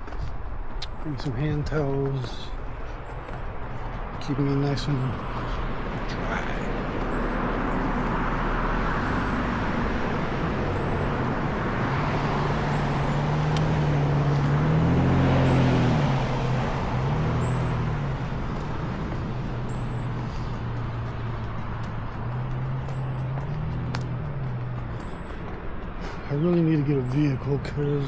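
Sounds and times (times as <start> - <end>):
road noise: 0.0 - 28.0
vehicle engine hum passing: 0.0 - 28.0.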